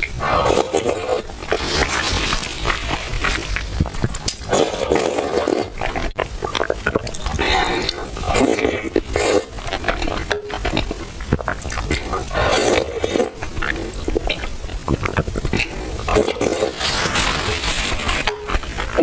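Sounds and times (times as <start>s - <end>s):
slurping and wet chewing: 0.0s - 19.0s.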